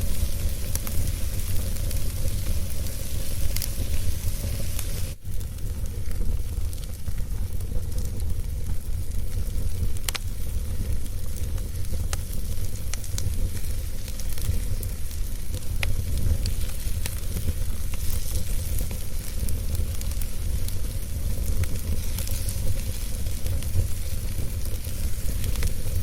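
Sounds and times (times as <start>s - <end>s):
fire crackles and pops: 0.0s - 26.0s
fire rumble and hiss: 0.0s - 26.0s.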